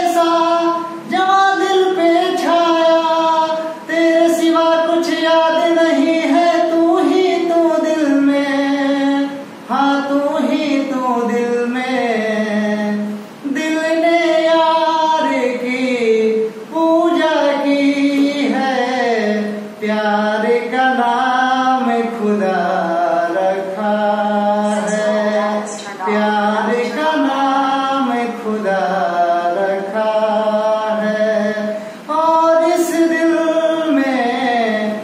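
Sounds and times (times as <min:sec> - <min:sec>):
man singing unaccompanied: 0:00.0 - 0:35.0.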